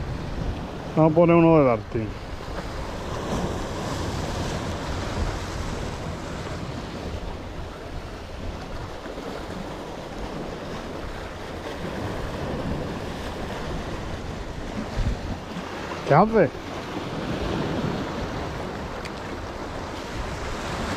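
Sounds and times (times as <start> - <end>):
sea waves washing against rocks: 0.0 - 20.9
wind buffeting microphone: 0.0 - 20.9.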